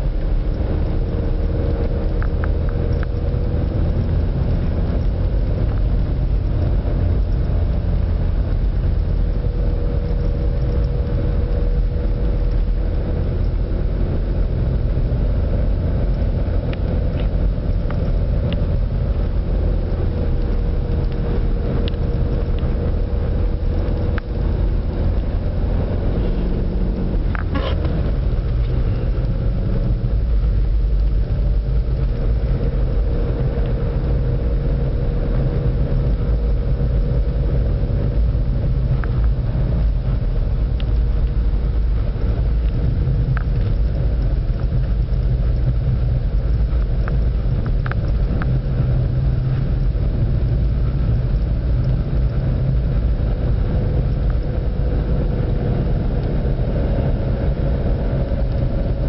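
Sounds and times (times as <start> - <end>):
faint engine hum: 0.0 - 59.0
tyres and engine rumbling: 0.0 - 59.0.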